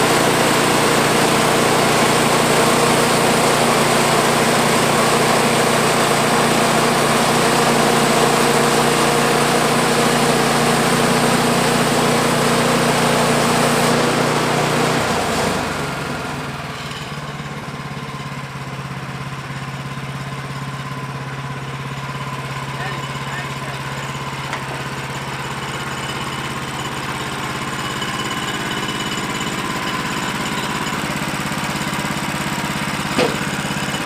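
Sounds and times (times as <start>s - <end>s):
gas engine running: 0.0s - 34.0s.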